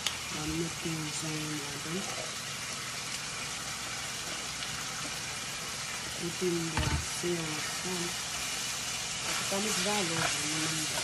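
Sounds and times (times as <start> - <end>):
meat and peppers sizzling in pan: 0.0 - 11.0.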